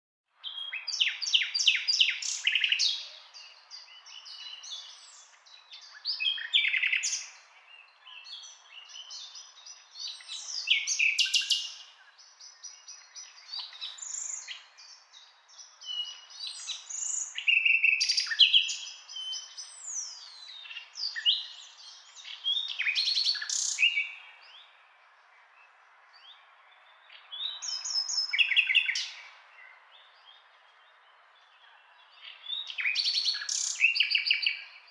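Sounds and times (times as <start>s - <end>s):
nightingale singing: 0.3s - 34.9s.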